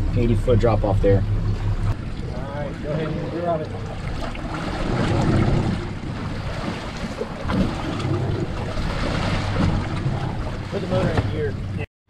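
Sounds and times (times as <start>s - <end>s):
steady low hum: 0.0s - 11.9s
water slapping boat hull: 0.0s - 11.9s.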